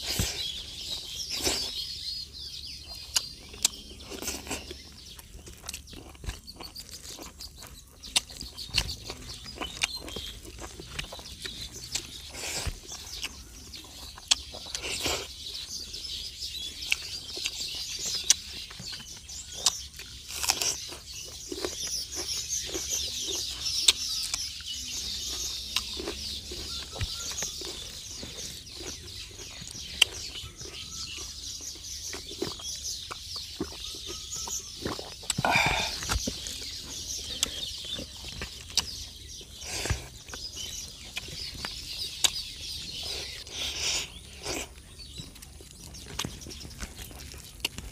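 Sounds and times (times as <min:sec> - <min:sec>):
lip smacks and chewing: 0:00.0 - 0:47.9
high chirping: 0:00.1 - 0:47.8
fingers mixing food clicks: 0:02.6 - 0:47.9.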